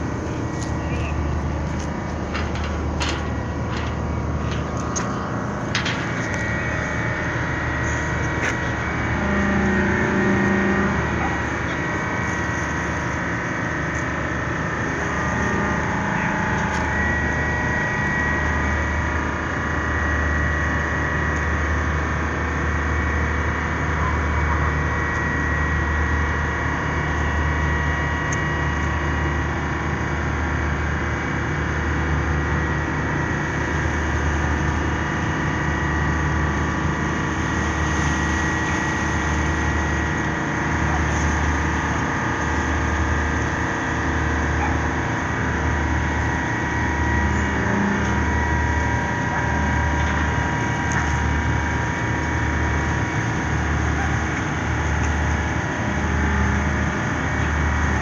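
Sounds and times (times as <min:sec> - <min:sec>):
diesel engine droning: 0:00.0 - 0:58.0
faint steady whine: 0:00.0 - 0:58.0.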